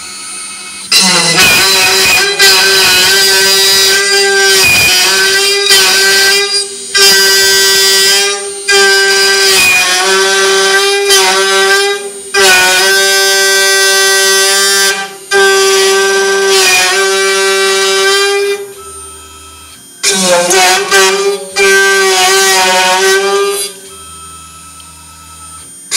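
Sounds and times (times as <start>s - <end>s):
router spindle whining cutting metal: 0.0s - 25.9s.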